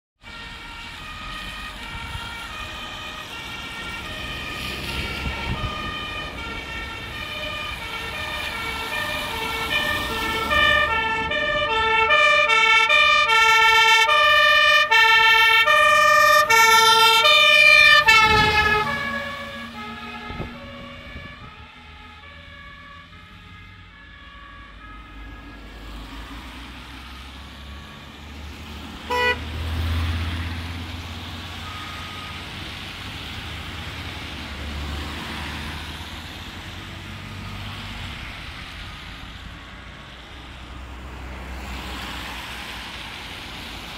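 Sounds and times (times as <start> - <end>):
two-tone fire engine siren: 0.2 - 43.9.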